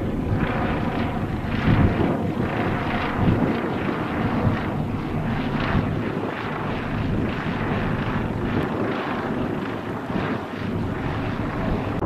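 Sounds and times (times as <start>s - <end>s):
helicopter rotor and engine drone: 0.0s - 12.0s
wind rumbling on microphone: 0.0s - 12.0s.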